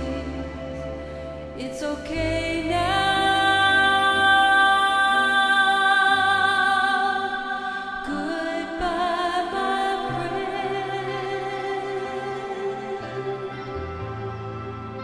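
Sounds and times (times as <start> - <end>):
music with sung melody: 0.0 - 15.0.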